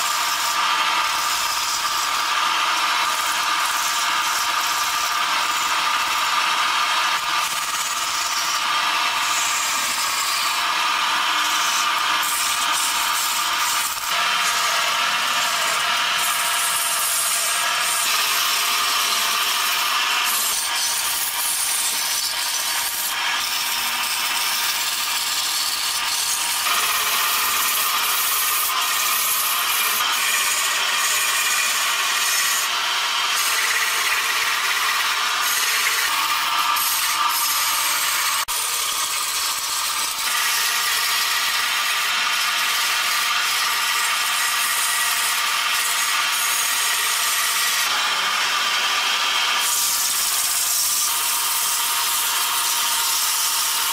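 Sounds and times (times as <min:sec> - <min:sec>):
tool scraping wood on lathe: 0:00.0 - 0:53.9.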